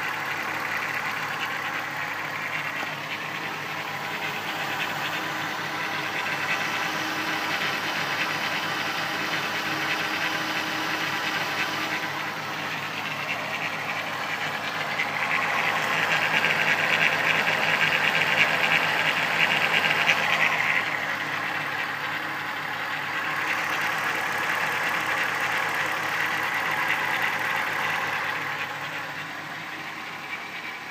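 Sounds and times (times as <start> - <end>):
engine running: 0.0 - 30.9.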